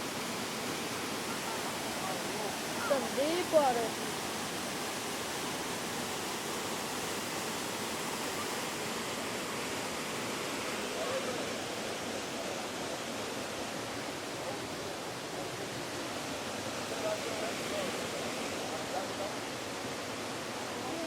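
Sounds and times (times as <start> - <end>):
rushing water of waterfall: 0.0 - 21.0.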